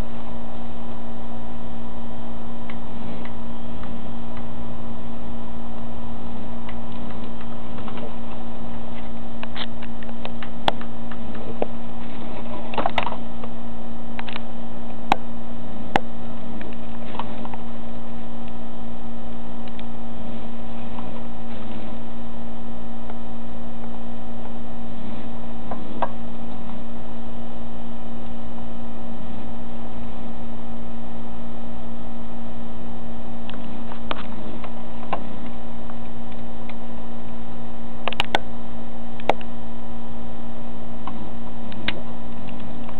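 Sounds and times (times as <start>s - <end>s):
buzzing electrical hum: 0.0s - 42.9s.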